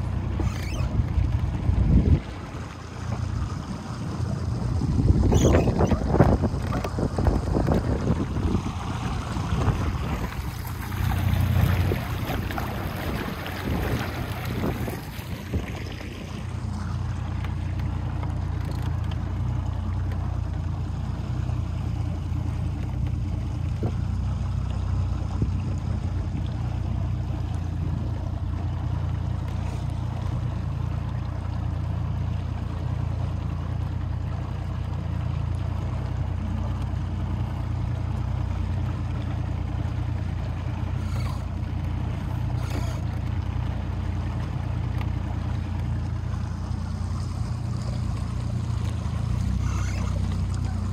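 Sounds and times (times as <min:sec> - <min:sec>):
boat motor humming: 0:00.0 - 0:50.9
water rushing along hull: 0:00.0 - 0:50.9.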